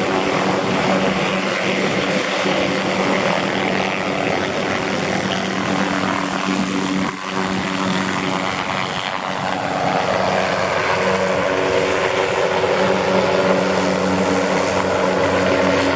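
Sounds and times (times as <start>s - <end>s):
helicopter turbine and rotors humming: 0.0s - 15.9s.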